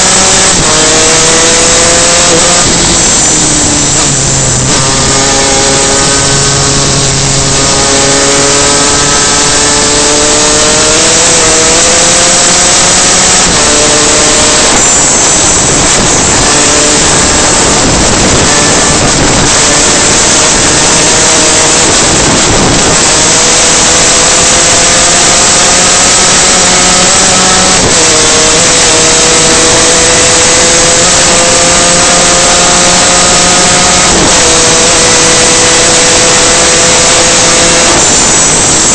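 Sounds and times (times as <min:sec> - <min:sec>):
loud steady rush: 0:00.0 - 0:38.9
two-stroke kart engine racing: 0:00.0 - 0:38.9.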